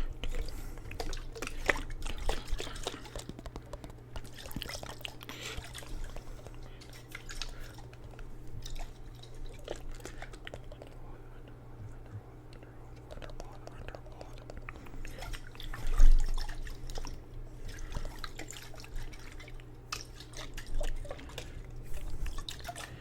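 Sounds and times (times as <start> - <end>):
water sloshing in a jar: 0.0 - 10.9, 14.7 - 23.0.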